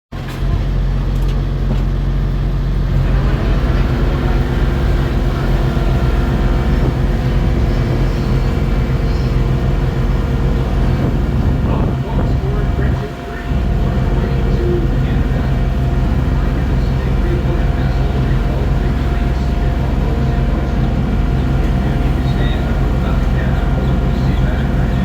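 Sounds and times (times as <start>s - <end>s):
boat engine droning: 0.2s - 25.0s.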